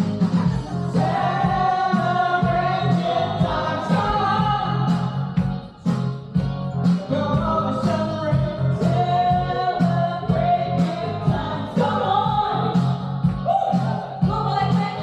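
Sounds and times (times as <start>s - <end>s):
song with singing over a beat: 0.0s - 15.0s.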